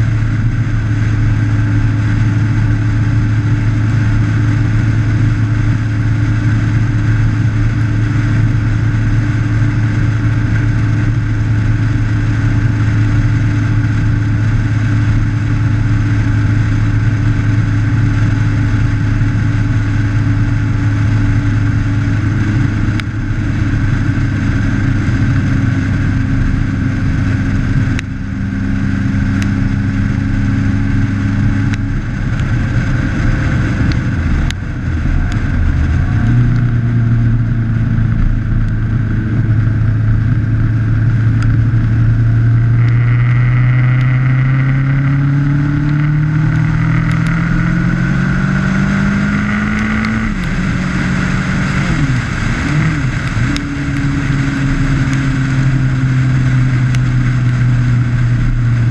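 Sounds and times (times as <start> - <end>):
motorcycle engine cruising: 0.0 - 58.9
wind and road noise: 0.0 - 58.9.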